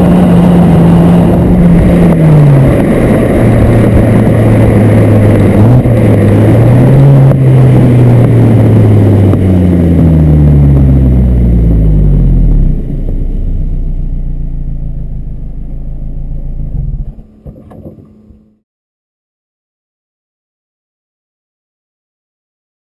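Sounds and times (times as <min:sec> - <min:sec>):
car engine exhaust: 0:00.0 - 0:18.6
road noise: 0:00.0 - 0:18.6.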